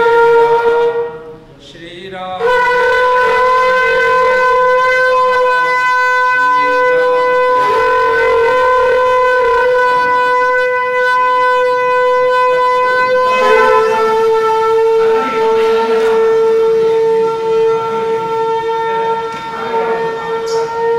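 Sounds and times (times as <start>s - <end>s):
conch shell blown: 0.0s - 1.6s, 2.3s - 20.9s.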